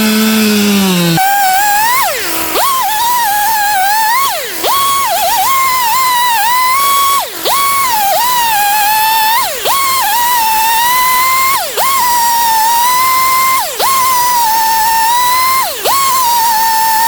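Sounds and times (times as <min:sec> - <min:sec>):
chainsaw running at high revs: 0:00.0 - 0:17.0.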